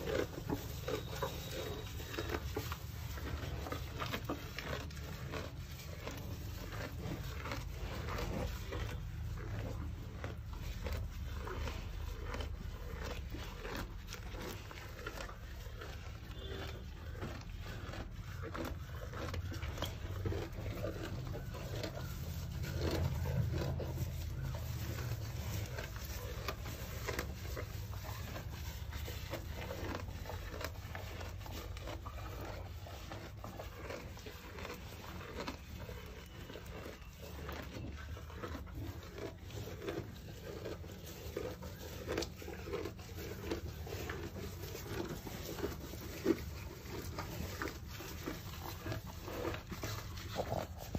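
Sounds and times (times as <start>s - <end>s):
cattle chewing grass: 0.0s - 50.9s.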